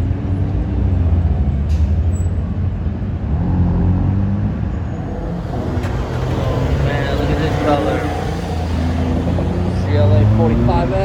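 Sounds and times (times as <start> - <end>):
car engines rumbling past: 0.0 - 11.0.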